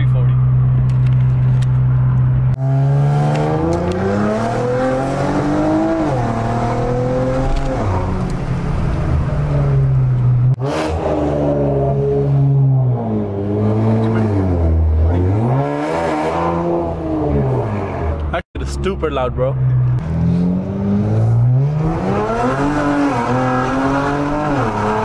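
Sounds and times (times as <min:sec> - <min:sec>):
car engine accelerating hard: 0:00.4 - 0:18.4, 0:19.6 - 0:25.0.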